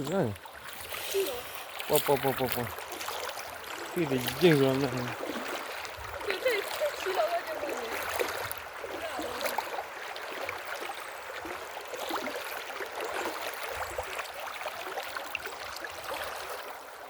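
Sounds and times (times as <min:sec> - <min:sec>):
small water splashes: 0:00.0 - 0:17.0
stream flowing: 0:00.0 - 0:17.0.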